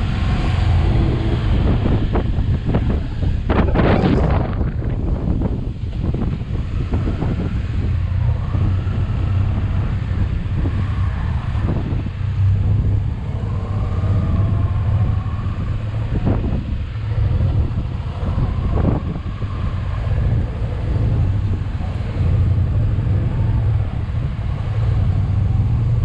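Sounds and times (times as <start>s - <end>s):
motorcycle engine droning: 0.0s - 26.0s
wind rushing over microphone: 0.0s - 26.0s.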